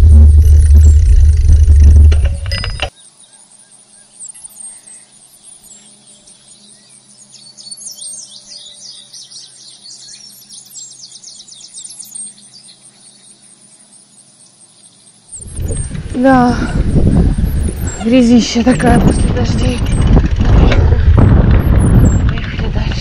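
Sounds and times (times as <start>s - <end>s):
insect trill: 0.0s - 20.5s
songbirds chirping: 2.5s - 23.0s.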